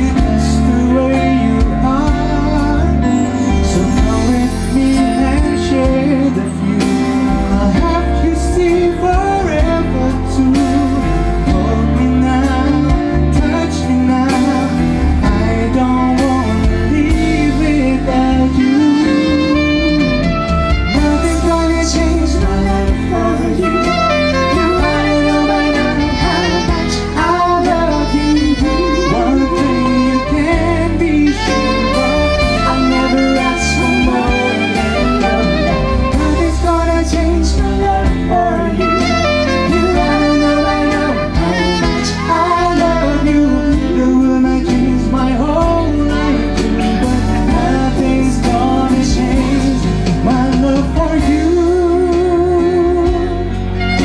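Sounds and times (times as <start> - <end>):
man and woman singing duet: 0.0 - 20.3, 20.9 - 53.8
band playing: 0.0 - 54.0.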